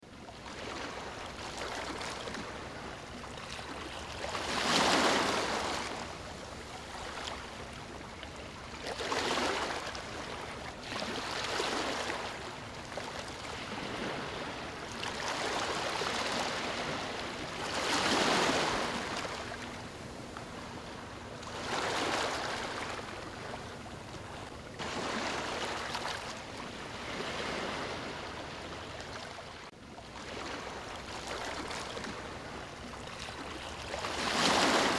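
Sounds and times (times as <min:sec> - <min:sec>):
ocean waves breaking on beach: 0:00.4 - 0:07.5, 0:08.9 - 0:34.9.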